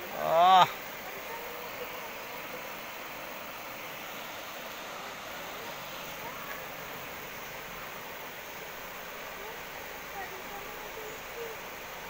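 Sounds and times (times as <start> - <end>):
water rushing over a weir: 0.0 - 12.0.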